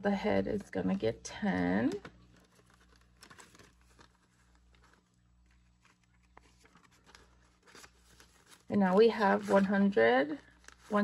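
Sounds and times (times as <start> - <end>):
low steady hum: 0.0 - 11.0
banknotes rustling: 1.4 - 11.0.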